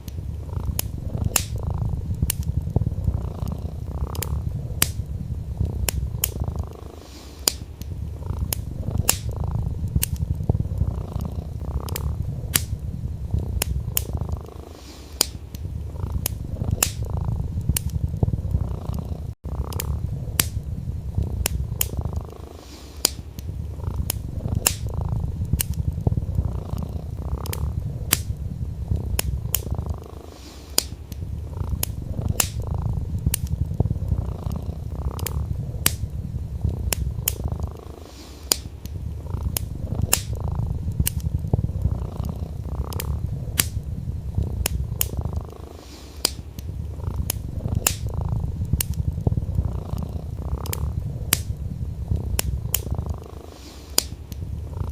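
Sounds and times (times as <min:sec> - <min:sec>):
cat purring: 0:00.0 - 0:54.9
wood fire crackling: 0:00.0 - 0:54.9.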